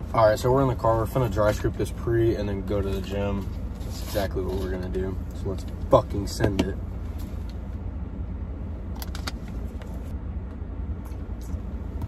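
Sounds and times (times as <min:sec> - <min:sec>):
low rumble inside car cabin: 0:00.0 - 0:12.0.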